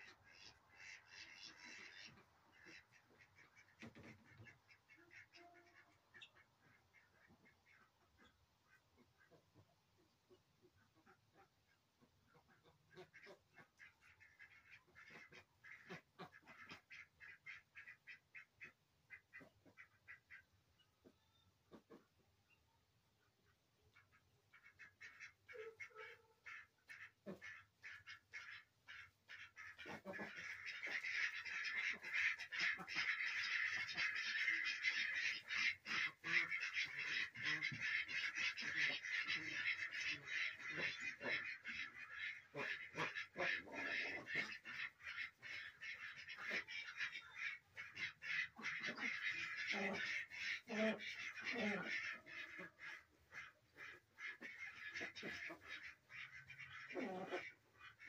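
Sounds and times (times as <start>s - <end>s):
ducks quacking: 0.0s - 58.0s.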